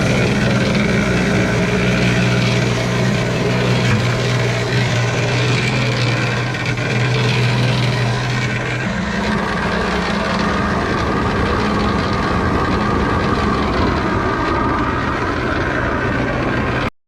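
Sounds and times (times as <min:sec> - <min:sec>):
concrete mixer motor hum: 0:00.0 - 0:16.9.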